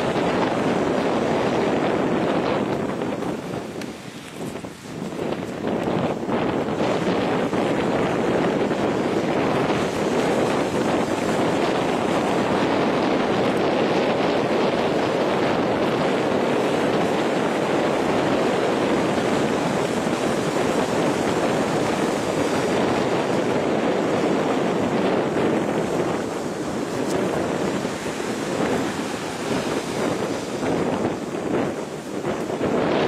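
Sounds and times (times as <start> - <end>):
sea surf rushing: 0.0 - 33.0
wind buffeting microphone: 0.0 - 33.0.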